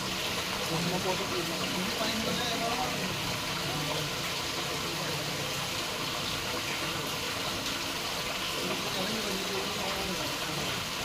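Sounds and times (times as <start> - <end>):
water rushing through plumbing: 0.0 - 11.0.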